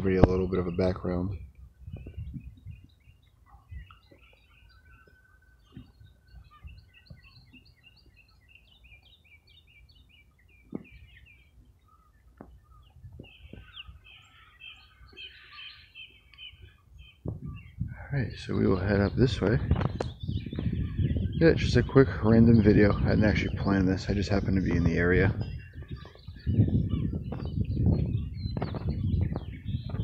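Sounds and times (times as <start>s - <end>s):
birds chirping: 0.0s - 30.0s
low rumble of wind: 0.0s - 30.0s.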